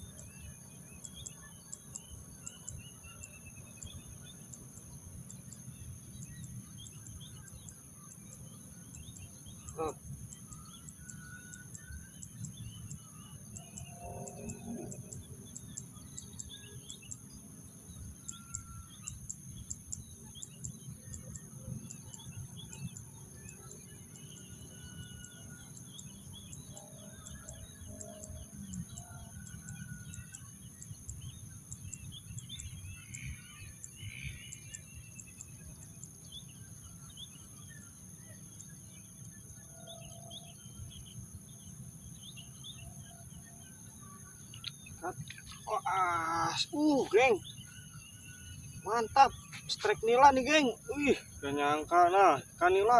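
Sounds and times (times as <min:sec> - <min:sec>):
birds chirping: 0:00.0 - 0:52.9
high-pitched insect drone: 0:00.0 - 0:52.9.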